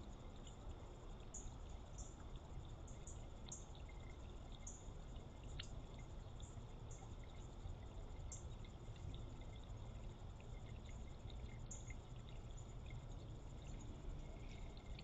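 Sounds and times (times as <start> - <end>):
steady low hiss: 0.0 - 15.0
water trickling and dripping: 0.0 - 15.0.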